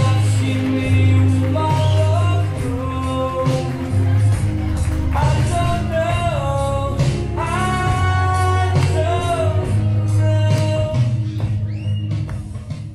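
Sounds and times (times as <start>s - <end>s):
person singing long sliding notes: 0.0s - 11.3s
bass line: 0.0s - 12.9s
guitar: 0.0s - 12.9s.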